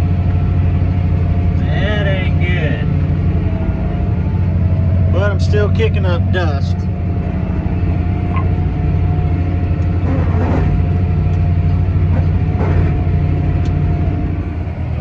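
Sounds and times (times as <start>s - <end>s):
steady engine whine: 0.0s - 15.0s
tractor diesel engine running: 0.0s - 15.0s.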